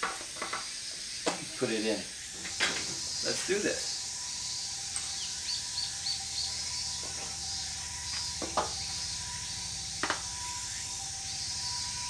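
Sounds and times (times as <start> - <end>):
high insect-like hiss: 0.0 - 12.0
faint chirps: 0.6 - 12.0.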